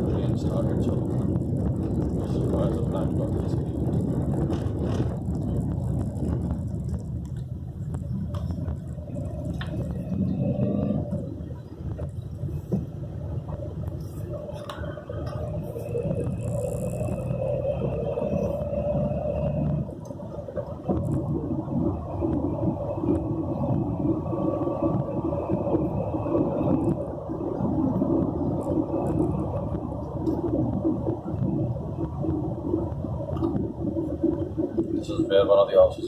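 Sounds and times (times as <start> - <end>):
car engine drone: 0.0 - 36.0
road rumble: 0.0 - 36.0.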